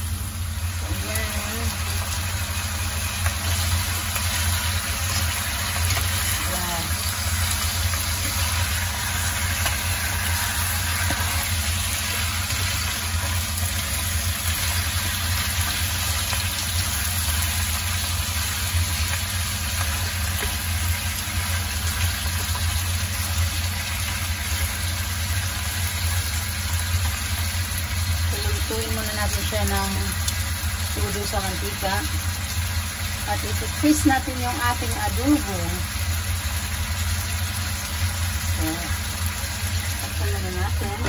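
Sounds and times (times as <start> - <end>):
chicken sizzling in a wok: 0.0 - 41.0
low mechanical hum: 0.0 - 41.0.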